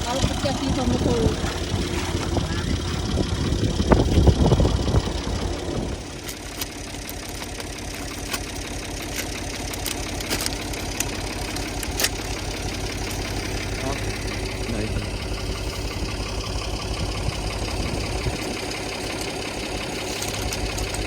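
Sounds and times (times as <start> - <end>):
tractor engine rumbling: 0.0 - 21.0.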